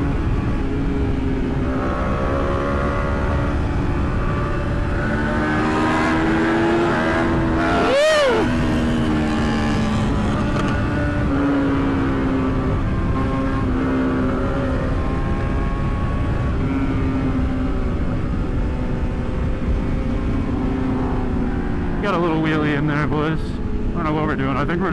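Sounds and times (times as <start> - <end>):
wind noise on microphone: 0.0 - 22.7
motorcycle engines running: 0.0 - 24.9.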